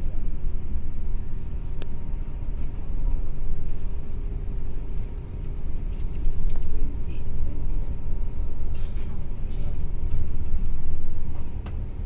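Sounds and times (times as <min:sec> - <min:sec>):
moving bus engine and road rumble: 0:00.0 - 0:12.0.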